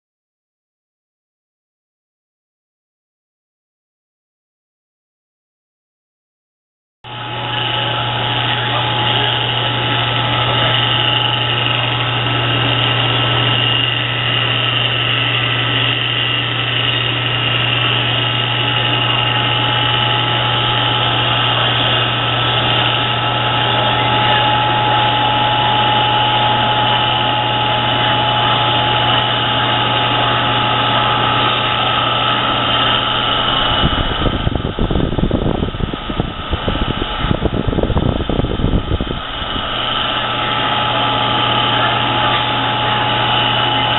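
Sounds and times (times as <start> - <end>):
electric motor humming: 7.1 - 43.9
uneven rumbling noise: 7.1 - 43.9.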